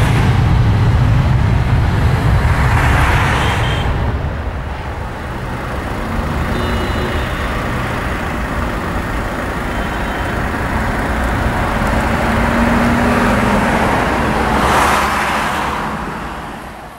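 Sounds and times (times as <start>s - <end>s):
jet engine roar: 0.0s - 16.3s.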